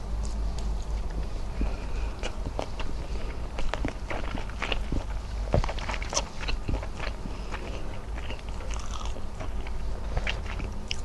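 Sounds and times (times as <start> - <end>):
chewing and wet mouth sounds: 0.2 - 11.0.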